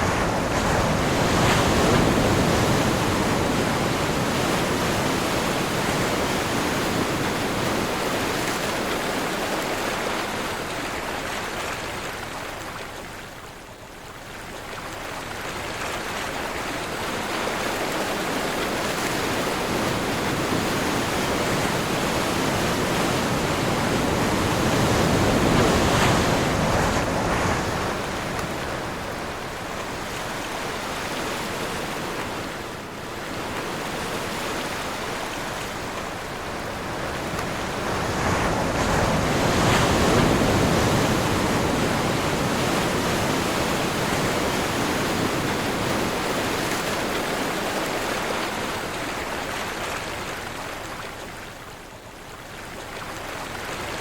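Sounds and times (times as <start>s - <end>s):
ocean surf washing in: 0.0s - 10.7s, 16.9s - 50.3s.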